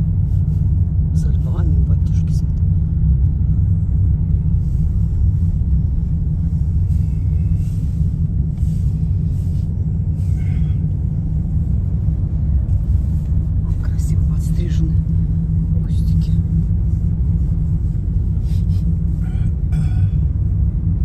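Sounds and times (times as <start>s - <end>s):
car driving interior rumble: 0.0s - 21.0s.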